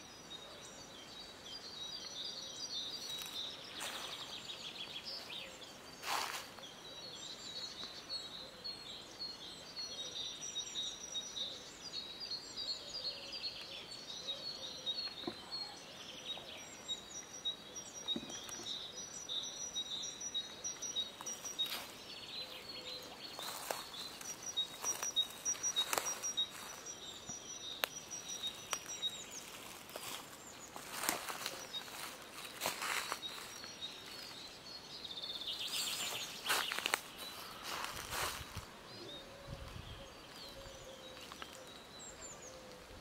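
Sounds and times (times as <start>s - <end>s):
songbirds chirping and singing: 0.0s - 43.0s.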